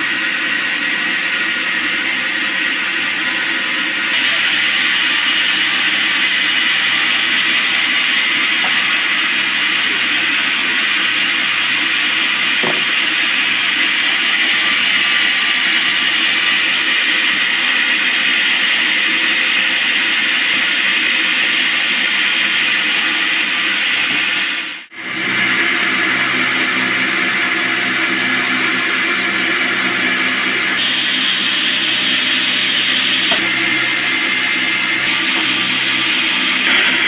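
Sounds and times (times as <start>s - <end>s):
band saw machine noise: 0.0s - 37.0s.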